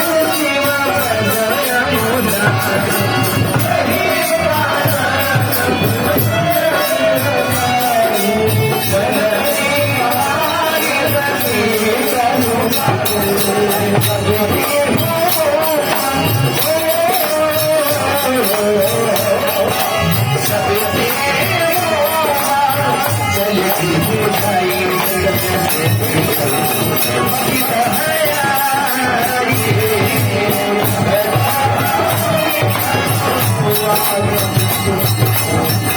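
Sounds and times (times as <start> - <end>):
devotional song melody: 0.0 - 35.9
hand percussion with jingles: 0.0 - 35.9.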